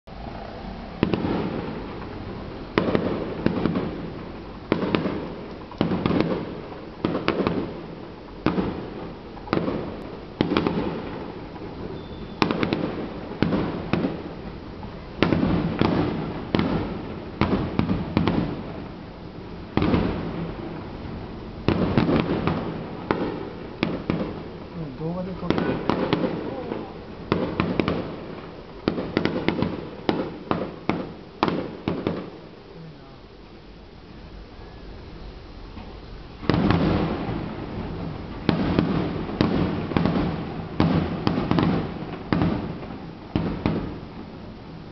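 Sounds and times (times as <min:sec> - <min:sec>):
firework shells bursting: 0:00.2 - 0:32.7, 0:35.5 - 0:44.8.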